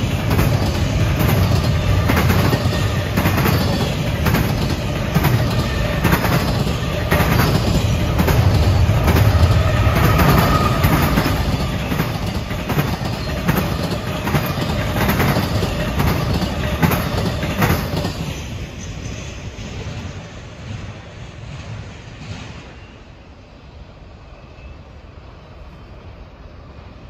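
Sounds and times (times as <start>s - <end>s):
train wheels clacking: 0.0s - 23.2s
train rumble: 0.0s - 27.0s.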